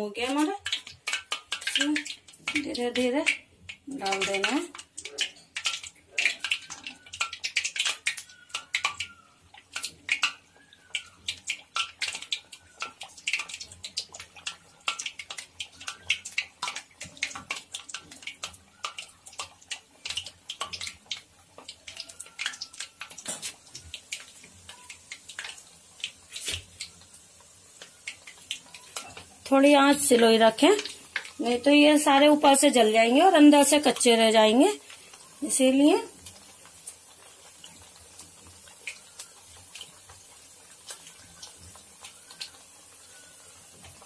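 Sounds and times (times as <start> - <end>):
dough sizzling in hot oil: 0.0 - 44.0.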